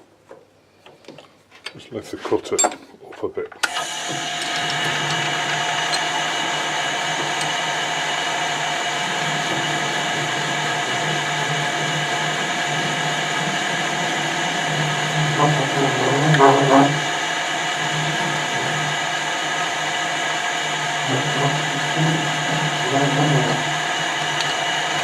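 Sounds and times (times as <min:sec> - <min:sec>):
machine tool humming: 0:03.6 - 0:25.0.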